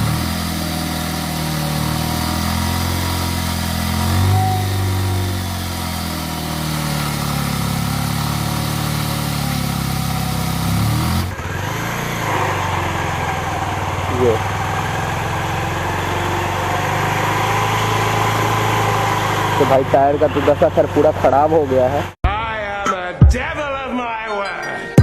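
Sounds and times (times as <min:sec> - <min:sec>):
motorcycle engine revving: 0:00.0 - 0:22.2.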